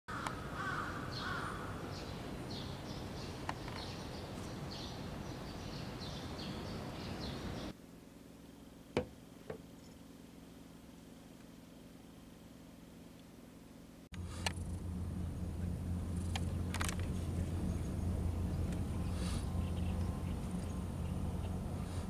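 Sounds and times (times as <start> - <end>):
steady background hiss: 0.1 - 22.0.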